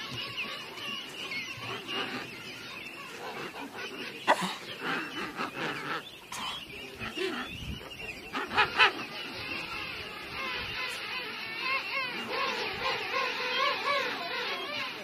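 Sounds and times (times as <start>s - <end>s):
penguins honking and braying: 0.0s - 15.0s.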